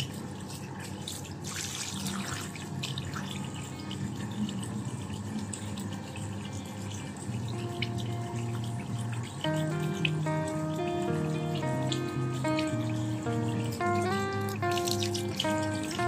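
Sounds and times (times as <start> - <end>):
water running from a tap: 0.0 - 16.0.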